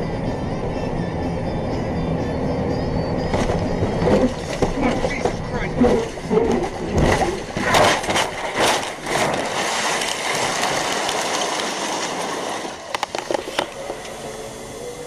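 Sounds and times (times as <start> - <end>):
car tumbling and scraping: 0.0 - 15.0.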